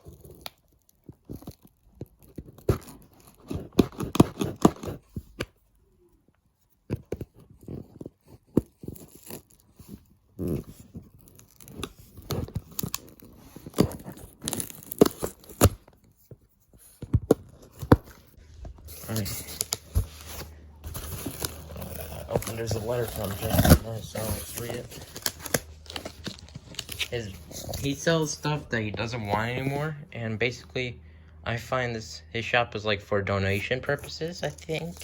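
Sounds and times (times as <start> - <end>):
cardboard and paper tearing: 0.0 - 5.2, 7.3 - 16.0, 16.8 - 30.0, 34.0 - 35.0.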